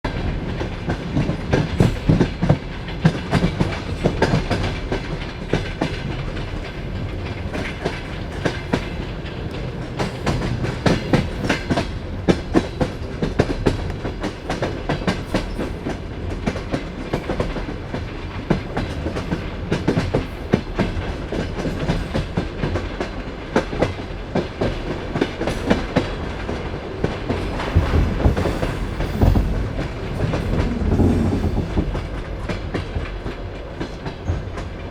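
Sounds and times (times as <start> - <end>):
train low rumble: 0.1 - 34.9
train wheels clacking over rail joints: 0.1 - 34.9.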